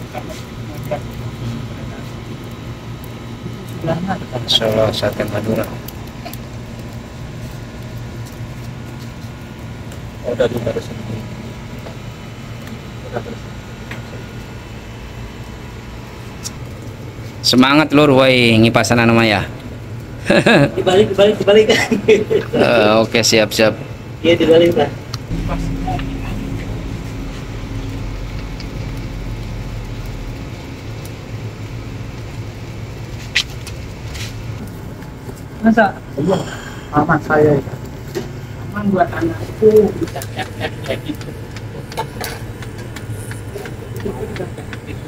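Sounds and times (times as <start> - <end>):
low machine hum: 0.0 - 45.0.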